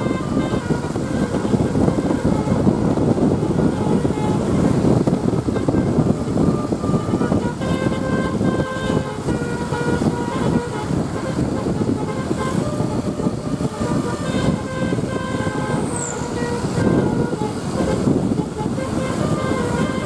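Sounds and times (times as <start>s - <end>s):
engine and road noise: 0.0s - 20.0s
multi-tone bus horn melody: 0.0s - 20.0s.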